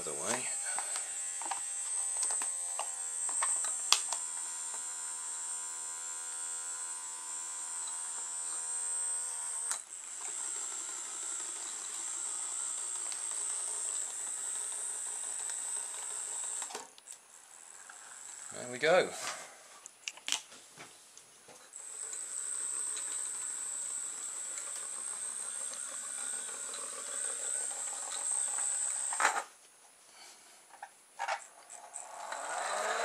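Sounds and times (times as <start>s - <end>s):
small electric motor whine: 0.0s - 19.2s, 21.7s - 29.5s, 31.3s - 33.0s.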